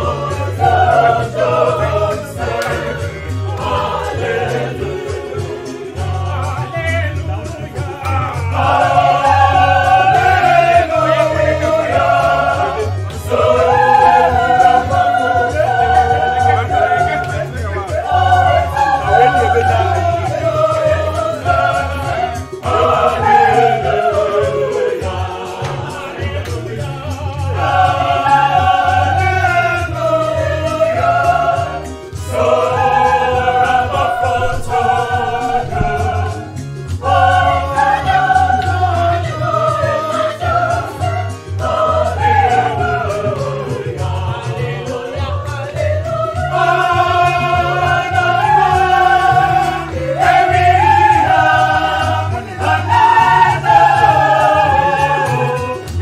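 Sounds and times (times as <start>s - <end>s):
mixed choir singing gospel: 0.0s - 56.0s.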